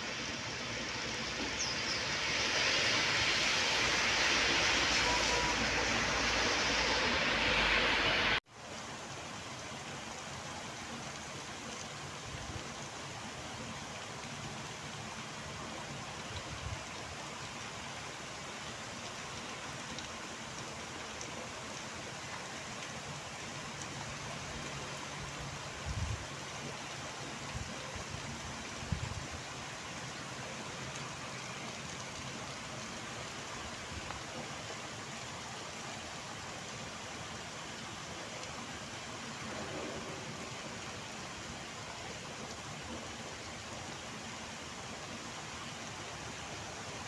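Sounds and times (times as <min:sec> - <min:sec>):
heavy rainfall: 0:00.0 - 0:47.0.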